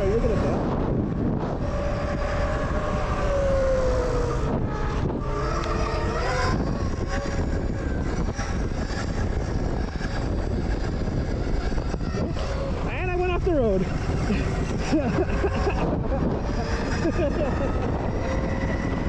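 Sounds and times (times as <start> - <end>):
electric motorcycle motor whining: 0.0 - 19.0
wind rush on microphone: 0.0 - 19.0.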